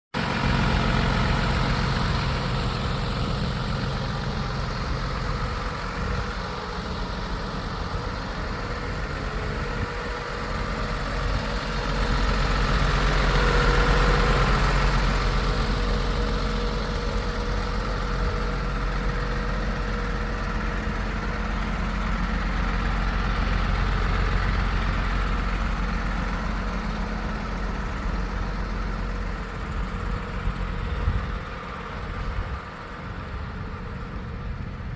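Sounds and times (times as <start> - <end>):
diesel truck engine idling: 0.2 - 34.9.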